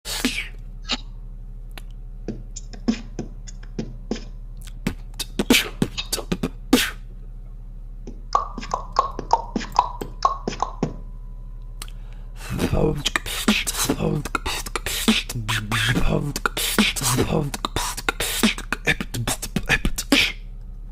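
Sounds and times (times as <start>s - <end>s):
beatboxing: 0.1s - 1.1s, 1.8s - 7.1s, 8.0s - 11.0s, 11.8s - 20.5s
steady low hum: 0.1s - 20.9s.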